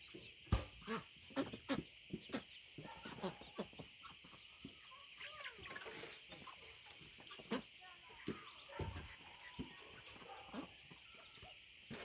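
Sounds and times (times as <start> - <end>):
hens clucking: 0.0 - 12.0
soft wavering hen calls: 0.8 - 12.0.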